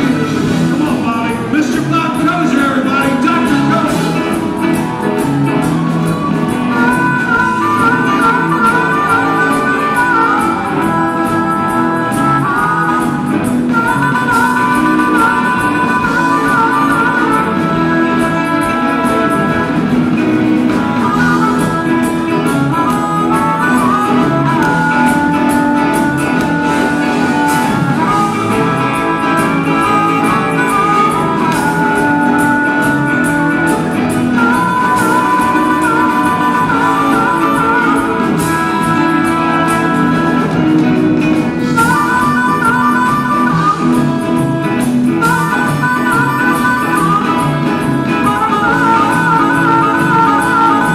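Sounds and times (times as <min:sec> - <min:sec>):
harmonica bending notes: 0:00.0 - 0:50.9
rock band playing: 0:00.0 - 0:50.9.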